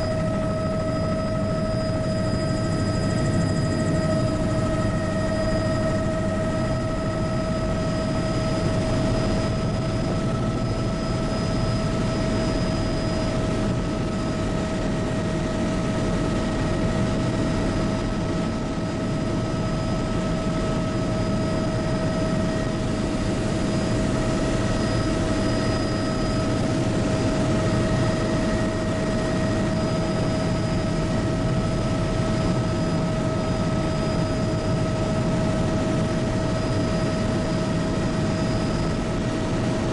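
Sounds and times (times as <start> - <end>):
helicopter rotor and engine noise: 0.0 - 39.9
high turbine whine: 0.0 - 39.9.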